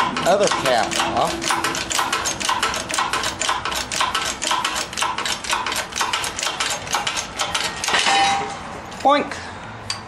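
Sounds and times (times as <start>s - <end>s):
rapid metallic clicking: 0.0s - 8.1s
heavy metal clack: 0.0s - 9.1s.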